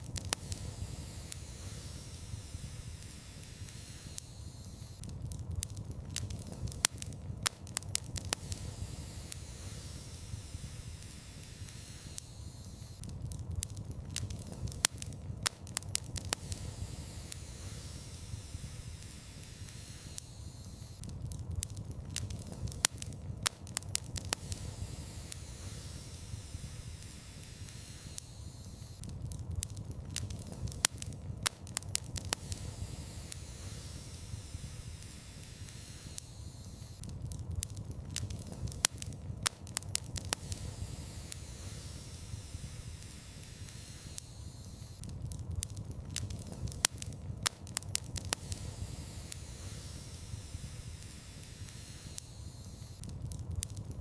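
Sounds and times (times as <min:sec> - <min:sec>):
fire crackling and popping: 0:00.0 - 0:54.0
fire rumbling and hissing: 0:00.0 - 0:54.0.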